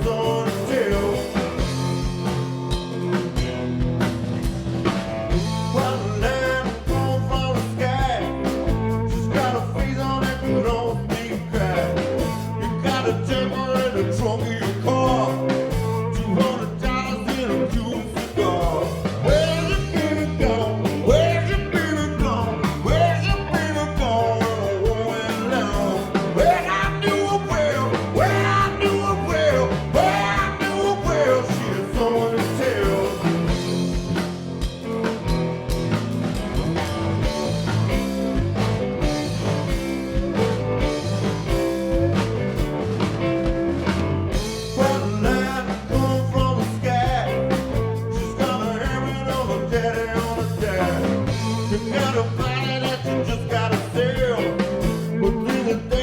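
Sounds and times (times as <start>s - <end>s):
electric guitar lead bending notes: 0.0s - 55.9s
blues-rock band playing: 0.0s - 56.0s.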